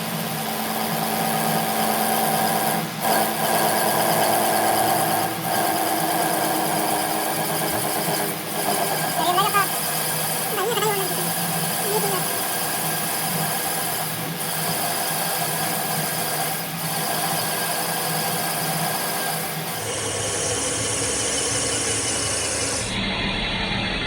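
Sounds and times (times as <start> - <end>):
machinery running with low hum: 0.0 - 24.0.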